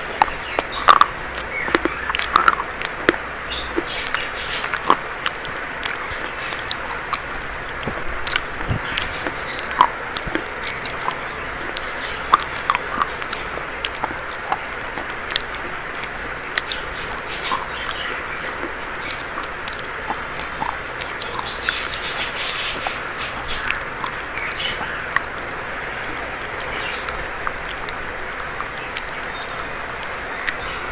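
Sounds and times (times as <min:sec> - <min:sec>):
chalk being chewed: 0:00.0 - 0:30.7.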